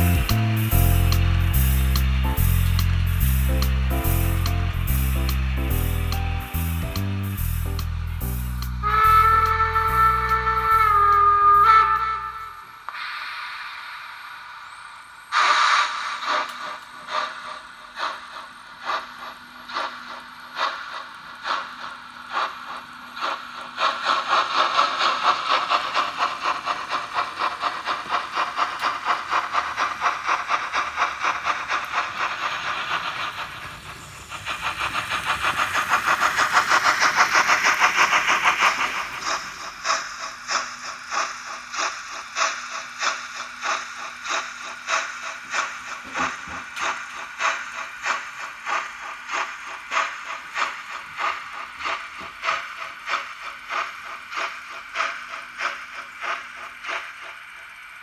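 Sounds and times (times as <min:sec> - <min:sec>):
model steam locomotive chuffing: 0:00.0 - 0:58.0
steam hiss: 0:00.0 - 0:58.0.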